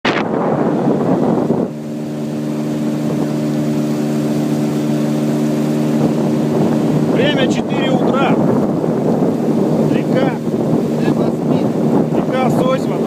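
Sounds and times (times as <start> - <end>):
boat motor humming: 0.0 - 13.0
wind and water rushing: 0.0 - 13.0.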